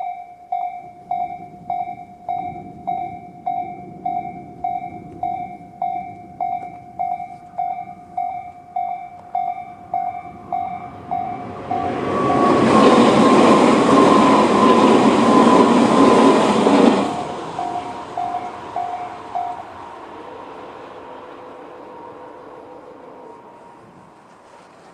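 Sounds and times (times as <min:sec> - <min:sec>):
level crossing warning bell: 0:00.0 - 0:23.9
electric train passing: 0:00.0 - 0:24.9
falling whine: 0:00.6 - 0:24.3.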